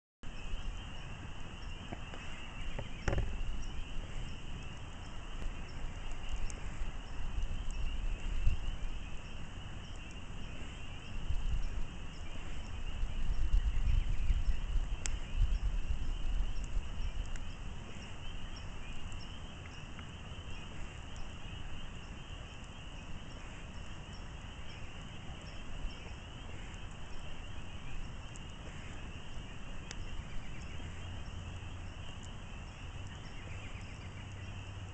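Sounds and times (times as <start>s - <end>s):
campfire crackling and popping: 0.2s - 34.9s
night insects chirring: 0.2s - 34.9s.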